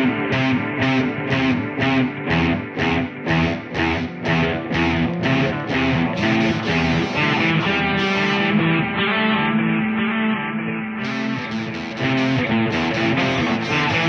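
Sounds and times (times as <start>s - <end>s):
electric guitar strumming chords: 0.0s - 14.0s.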